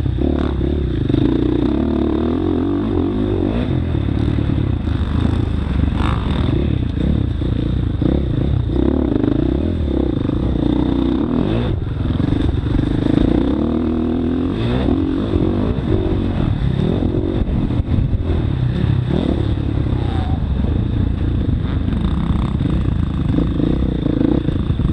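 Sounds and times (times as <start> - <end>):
motocross bike engine revving: 0.0 - 24.9.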